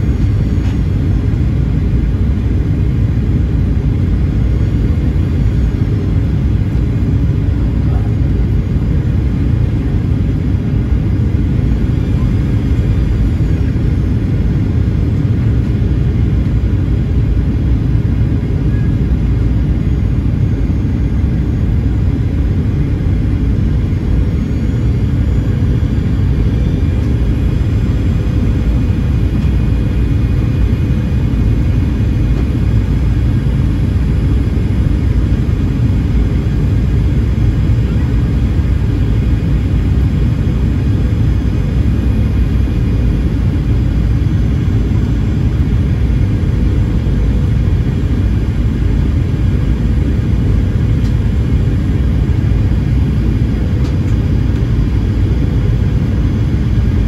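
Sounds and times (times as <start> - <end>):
faint steady whine: 0.0 - 57.0
jet cabin roar: 0.0 - 57.0.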